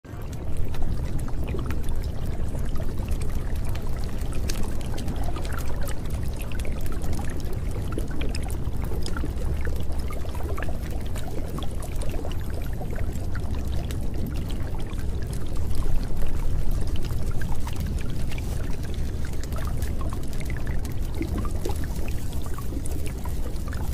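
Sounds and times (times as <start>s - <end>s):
drips and splashes: 0.1s - 23.9s
rushing water: 0.1s - 23.9s.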